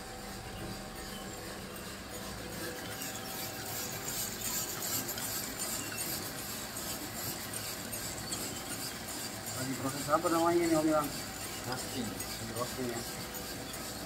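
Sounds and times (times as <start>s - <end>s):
coffee roasting machine running: 0.0s - 14.0s.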